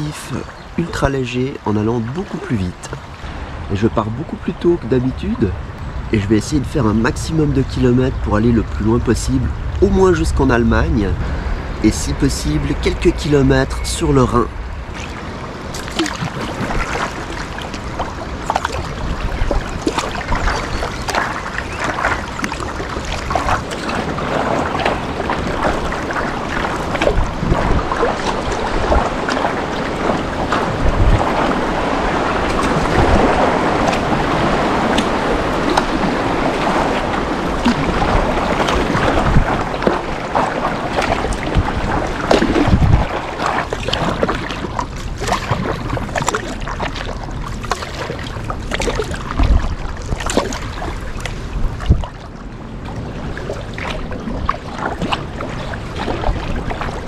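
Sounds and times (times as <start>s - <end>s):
water splashing around kayak: 0.0s - 57.0s
wind buffeting microphone: 0.0s - 57.0s.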